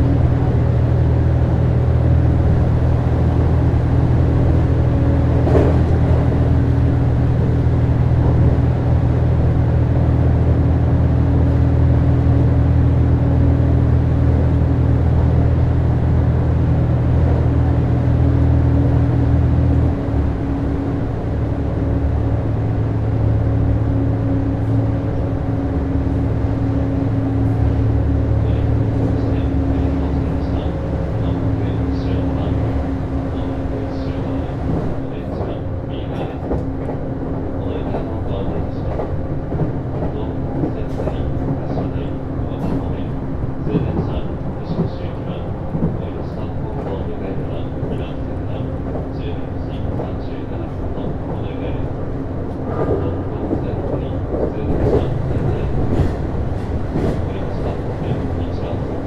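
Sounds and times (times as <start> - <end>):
diesel engine drone: 0.0 - 59.0
train rumbling in motion: 0.0 - 59.0.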